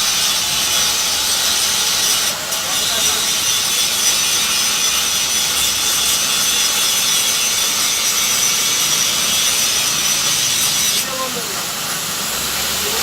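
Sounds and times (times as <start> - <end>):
machine hissing with thin whine: 0.0 - 13.0.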